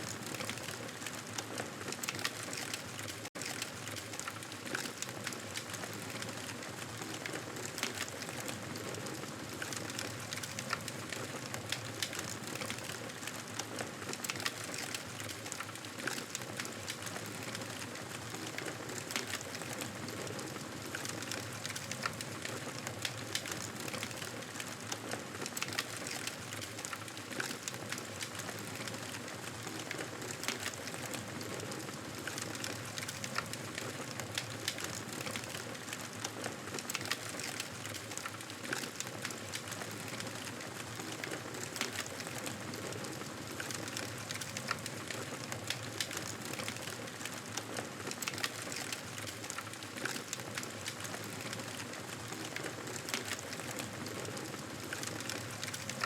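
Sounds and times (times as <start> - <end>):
wood fire crackling and popping: 0.1 - 56.0.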